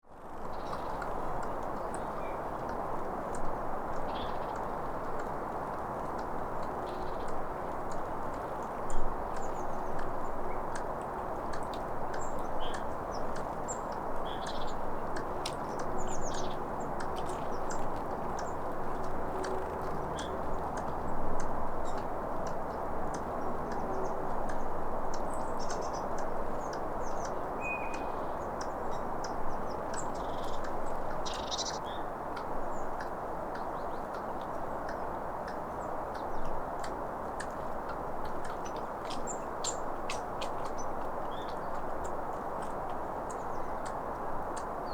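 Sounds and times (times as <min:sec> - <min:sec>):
squirrel clicking calls: 0:06.0 - 0:44.9.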